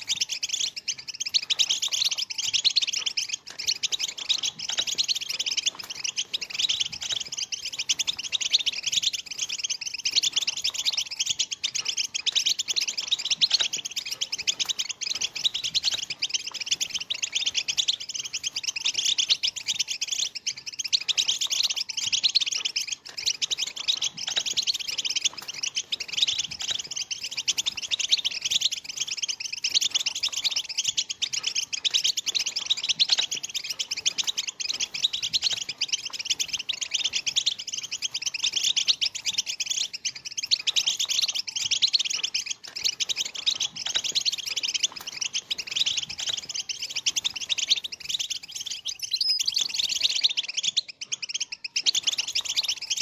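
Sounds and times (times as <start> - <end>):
finches twittering and chirping: 0.0 - 53.0.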